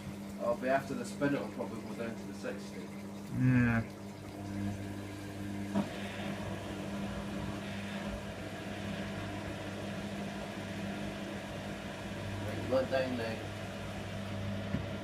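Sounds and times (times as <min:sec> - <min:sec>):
washer dryer humming: 0:00.0 - 0:15.0.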